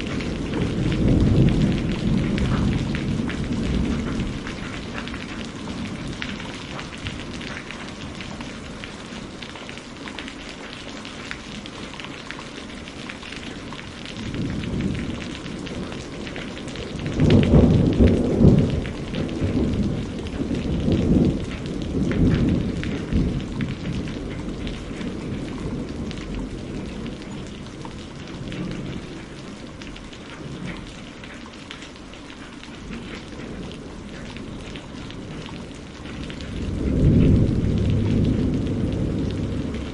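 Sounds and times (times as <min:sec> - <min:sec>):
thunder rumbling: 0:00.0 - 0:09.4, 0:12.6 - 0:31.4, 0:32.7 - 0:39.9
steady rainfall: 0:00.0 - 0:39.9.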